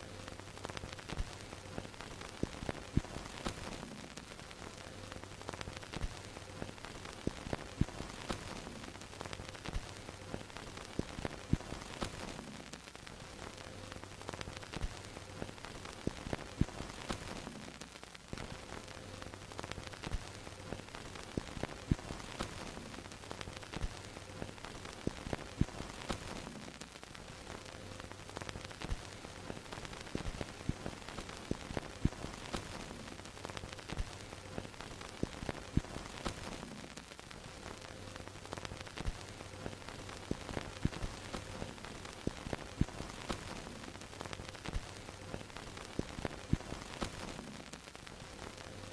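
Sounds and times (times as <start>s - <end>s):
film crackles and pops: 0.0s - 48.9s
film projector hiss: 0.0s - 48.9s.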